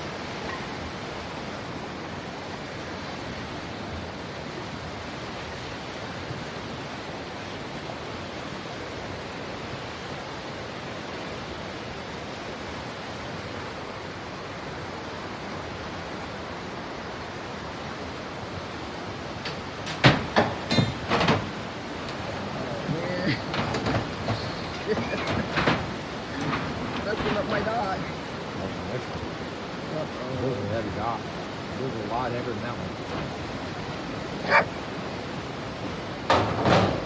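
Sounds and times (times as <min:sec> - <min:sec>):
floodwater rushing: 0:00.0 - 0:37.0.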